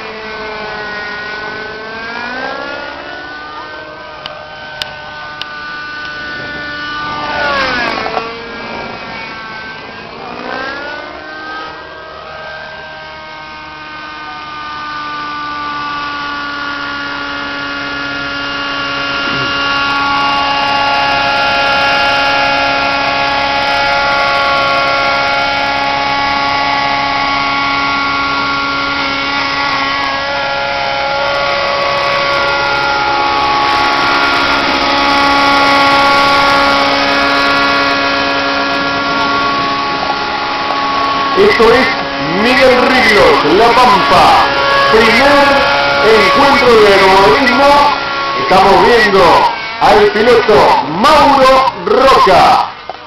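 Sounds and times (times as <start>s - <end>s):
model helicopter engine and rotor: 0.0s - 53.0s.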